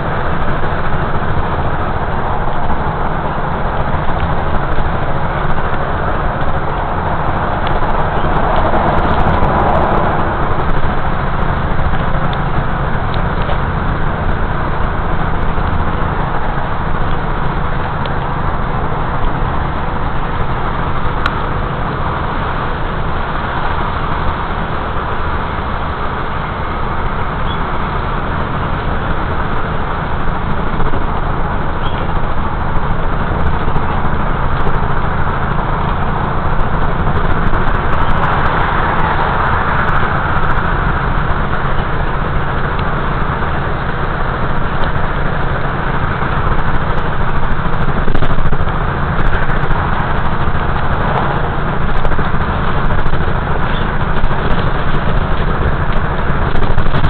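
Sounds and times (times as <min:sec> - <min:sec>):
constant rush of sound: 0:00.0 - 0:57.0
low engine hum: 0:00.0 - 0:57.0.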